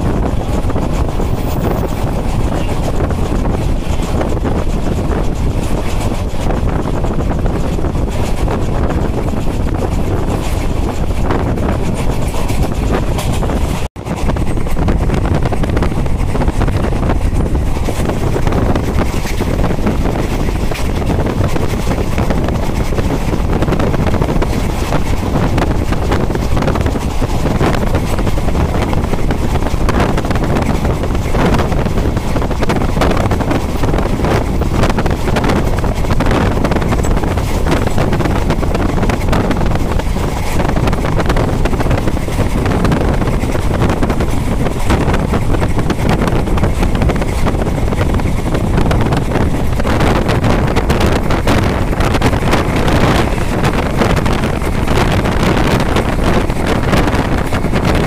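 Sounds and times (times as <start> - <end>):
train rumbling along track: 0.0 - 58.0
wind rushing over microphone: 0.0 - 58.0.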